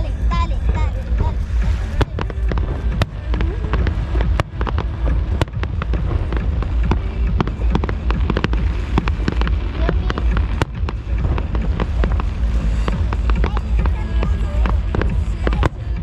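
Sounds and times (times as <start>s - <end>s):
deep rumble of firework bursts: 0.0s - 16.0s
fireworks crackling and popping: 0.0s - 16.0s.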